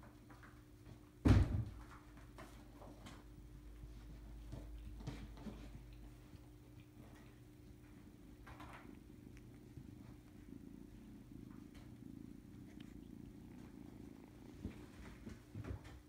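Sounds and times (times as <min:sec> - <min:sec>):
kitten purring: 0:01.8 - 0:16.0.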